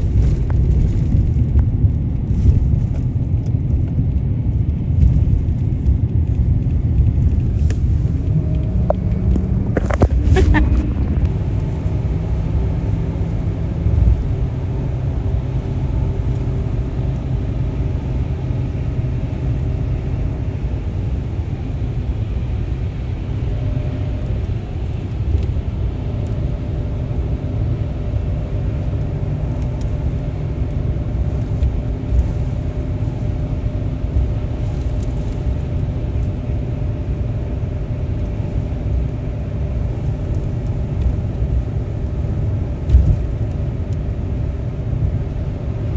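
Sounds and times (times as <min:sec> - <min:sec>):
car driving rumble: 0:00.0 - 0:45.9.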